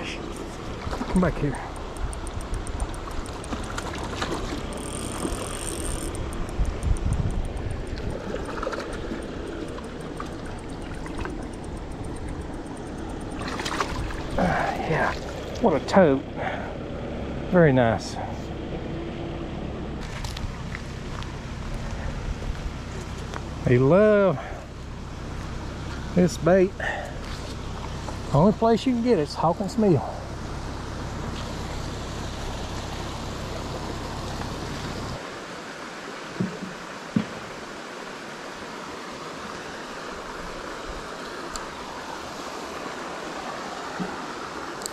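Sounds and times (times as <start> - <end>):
stream water trickling: 0.0 - 44.9.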